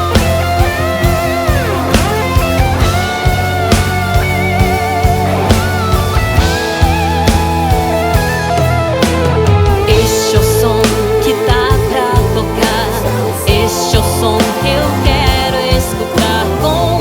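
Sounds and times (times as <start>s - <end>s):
bass: 0.0s - 17.0s
drums: 0.0s - 17.0s
electric guitar lead melody: 0.0s - 17.0s.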